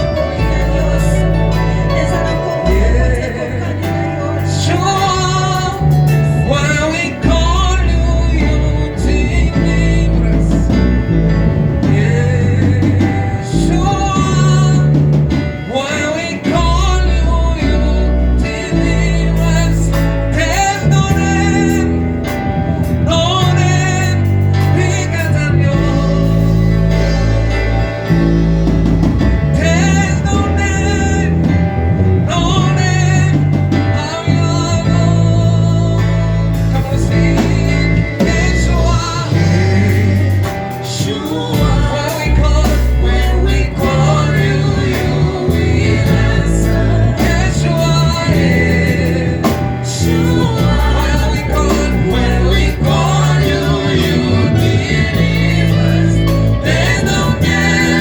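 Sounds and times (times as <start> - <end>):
bass line: 0.0 - 58.0
gospel singing over a band: 0.0 - 58.0.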